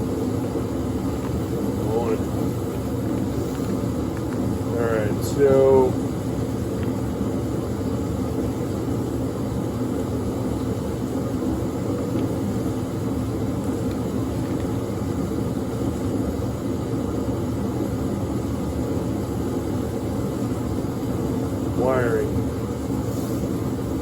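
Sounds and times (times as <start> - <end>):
low mechanical rumble: 0.0 - 24.0.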